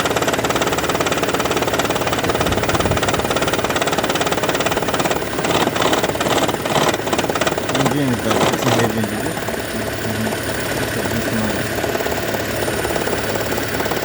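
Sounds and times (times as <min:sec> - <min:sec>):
car engine rattling: 0:00.0 - 0:14.0.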